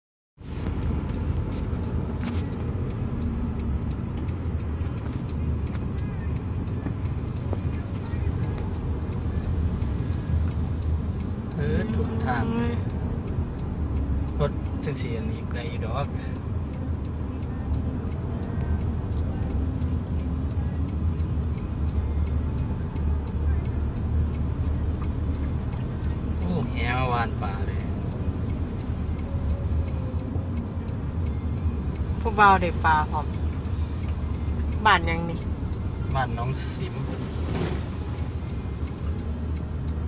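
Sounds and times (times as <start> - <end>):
car engine and road noise: 0.4 - 40.0
low vehicle rumble: 0.4 - 40.0
regular ticking: 0.4 - 40.0.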